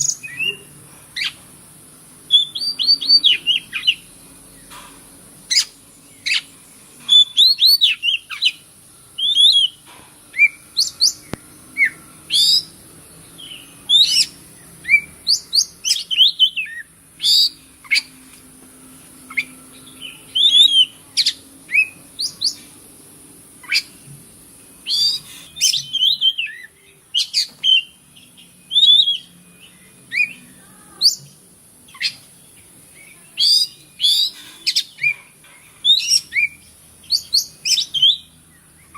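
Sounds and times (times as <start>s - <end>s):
bird singing chirps and whistles: 0.0s - 1.4s, 2.3s - 4.7s, 5.5s - 6.5s, 7.1s - 8.6s, 9.2s - 12.8s, 13.4s - 18.1s, 19.3s - 22.6s, 23.6s - 24.1s, 24.8s - 35.2s, 35.8s - 38.9s.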